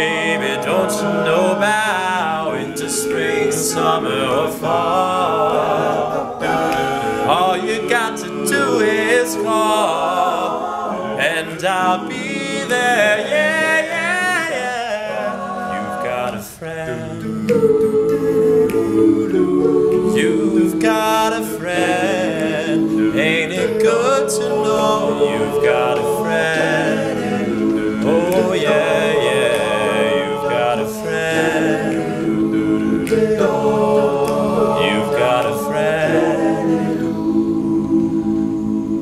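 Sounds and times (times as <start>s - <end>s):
men's backing voices harmony: 0.0s - 39.0s
tenor singing lead melody: 0.0s - 39.0s.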